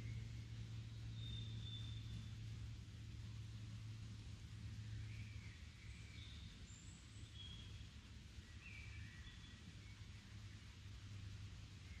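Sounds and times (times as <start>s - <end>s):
soft hiss: 0.0s - 12.0s
songbirds chirping: 0.0s - 12.0s.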